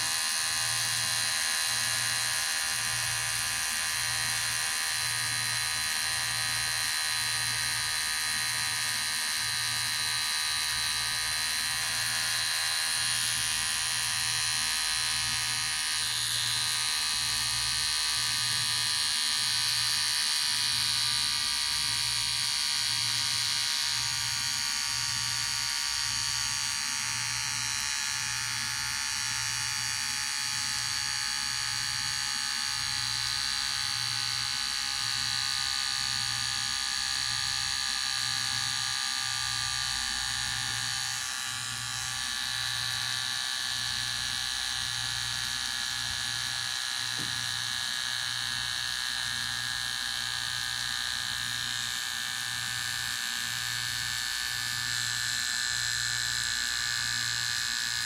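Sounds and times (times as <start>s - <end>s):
electric hair clipper buzzing: 0.0s - 58.0s.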